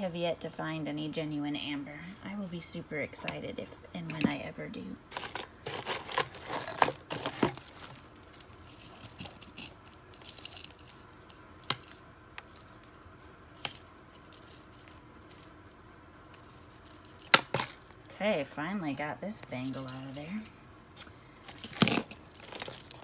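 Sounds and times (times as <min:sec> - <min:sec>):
jewelry clinking and rattling: 0:02.0 - 0:18.1, 0:19.2 - 0:20.7, 0:21.4 - 0:23.0.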